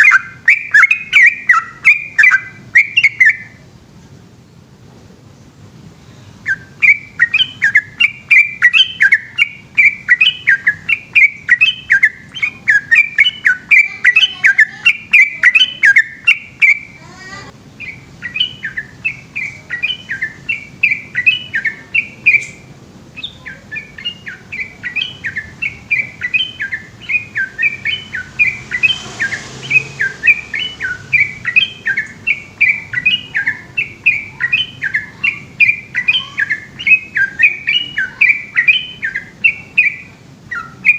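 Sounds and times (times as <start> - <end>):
bird singing whistled notes: 0.0 - 3.6, 6.4 - 17.0, 17.8 - 40.9.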